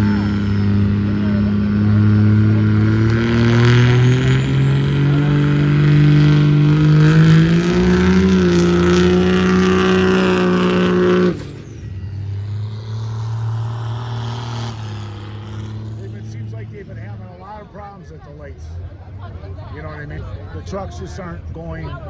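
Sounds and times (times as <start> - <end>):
diesel engines at full throttle: 0.0 - 22.0.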